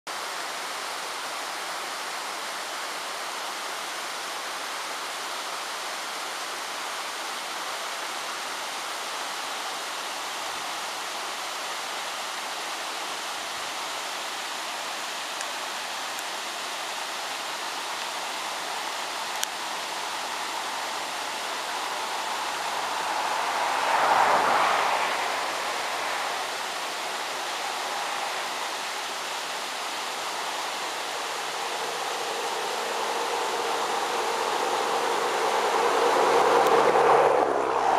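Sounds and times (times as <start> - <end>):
waterfall and creek rushing: 0.1 - 37.9.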